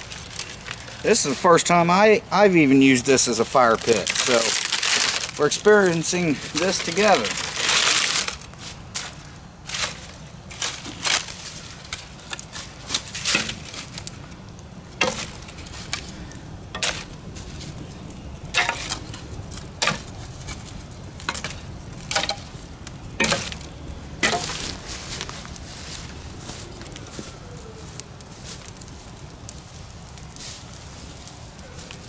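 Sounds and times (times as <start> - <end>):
small fire crackling and popping: 0.0 - 32.0.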